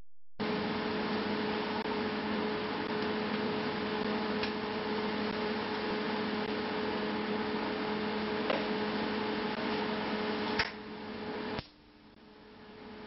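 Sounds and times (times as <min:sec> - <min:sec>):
welder electrical hum and fan hiss: 0:00.4 - 0:13.0.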